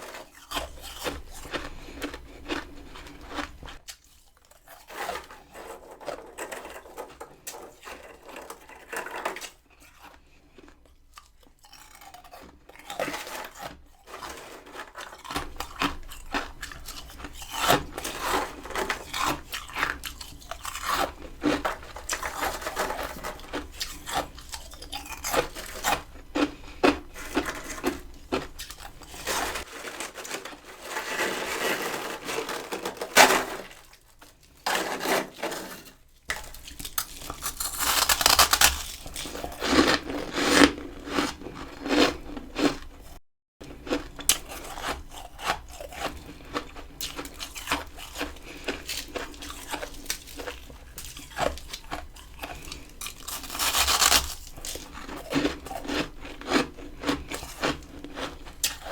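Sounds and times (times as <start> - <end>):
crunching and chewing ice: 0.0 - 58.9.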